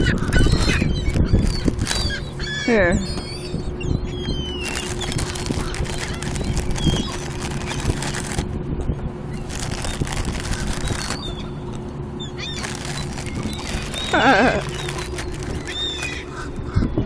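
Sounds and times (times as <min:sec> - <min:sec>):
seagulls squawking: 0:00.0 - 0:08.4, 0:09.2 - 0:17.0
low rumble and hum: 0:00.0 - 0:17.0.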